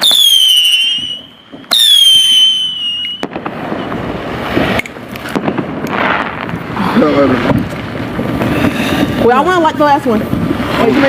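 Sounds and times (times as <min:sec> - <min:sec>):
fireworks whistling: 0:00.0 - 0:11.0
hissing crackle with pops: 0:00.0 - 0:11.0.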